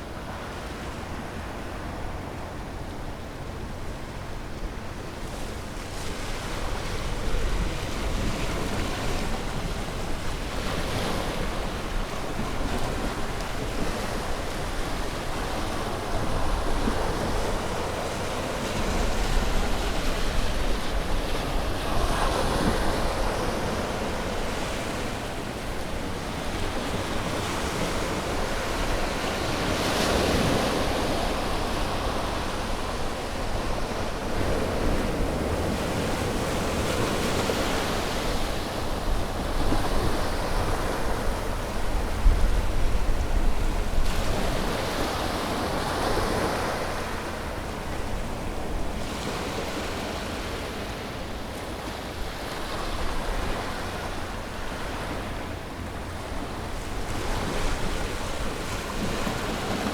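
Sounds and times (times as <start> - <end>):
ocean waves breaking on shore: 0.0 - 59.9
wind rumble on microphone: 0.7 - 51.0.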